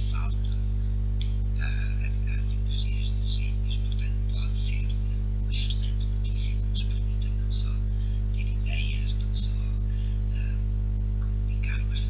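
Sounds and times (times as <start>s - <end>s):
faint whispery voice fragments: 0.0s - 0.6s, 1.2s - 10.6s, 11.2s - 12.0s
loud electrical hum: 0.0s - 12.0s.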